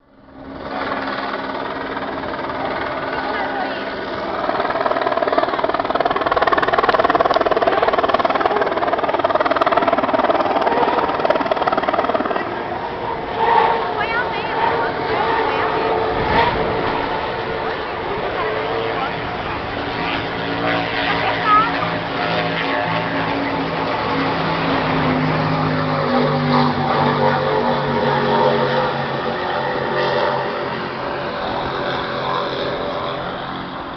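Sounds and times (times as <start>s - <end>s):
powerboat engine drone: 0.0s - 33.9s
pulsing motor noise: 0.0s - 33.9s.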